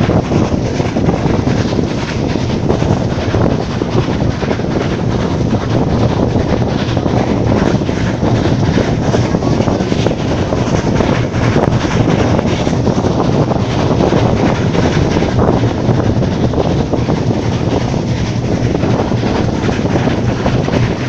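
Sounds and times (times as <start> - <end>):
train wheels rolling on track: 0.0 - 21.0
wind rushing over microphone: 0.0 - 21.0.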